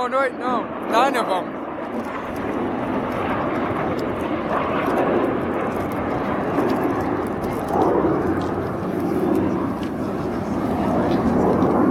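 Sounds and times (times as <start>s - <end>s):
airplane engines rumbling overhead: 0.0s - 11.9s.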